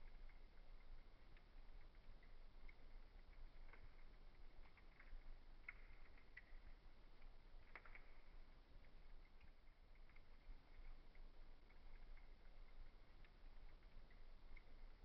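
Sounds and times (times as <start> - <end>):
faint wood fire crackling: 0.0 - 15.0.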